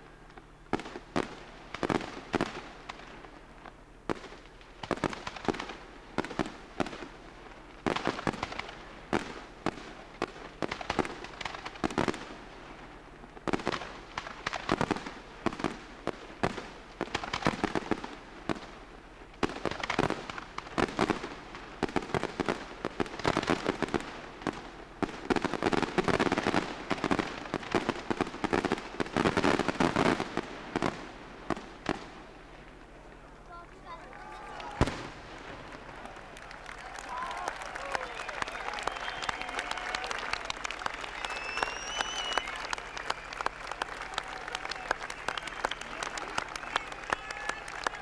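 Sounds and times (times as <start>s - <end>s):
fireworks bursting with sharp bangs: 0.0s - 48.0s
fireworks crackling: 0.0s - 48.0s.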